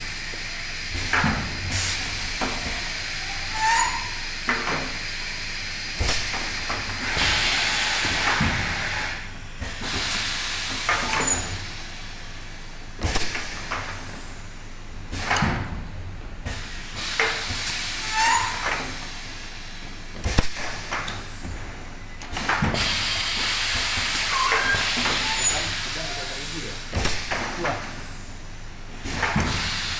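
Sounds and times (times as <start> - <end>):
compressed air hissing: 0.1 - 14.4, 16.4 - 29.9
valves clicking and clunking: 0.2 - 9.0, 13.0 - 14.4, 15.1 - 28.2, 28.9 - 29.9.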